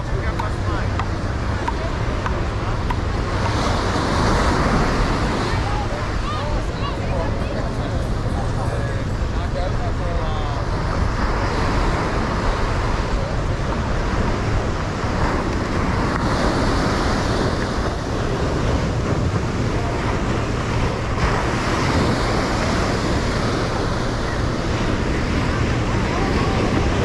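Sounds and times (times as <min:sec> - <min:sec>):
surf breaking: 0:00.0 - 0:27.0
wind on microphone: 0:00.0 - 0:27.0.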